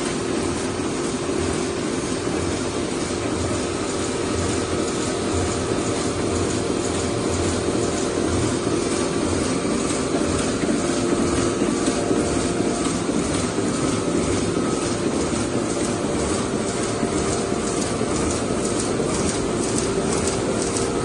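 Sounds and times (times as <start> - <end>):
printing press running: 0.0 - 21.0.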